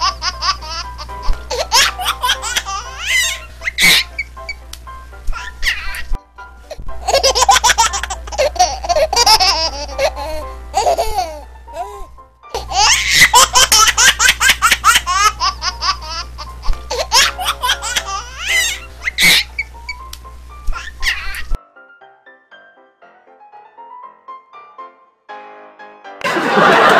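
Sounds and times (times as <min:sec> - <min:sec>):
music: 0:00.0 - 0:26.9.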